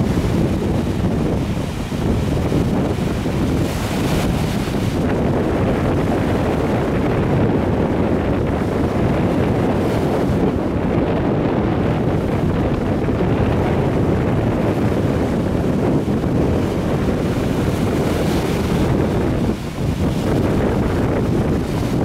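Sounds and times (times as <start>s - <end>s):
waves washing up shore: 0.0s - 22.0s
wind buffeting microphone: 0.0s - 22.0s.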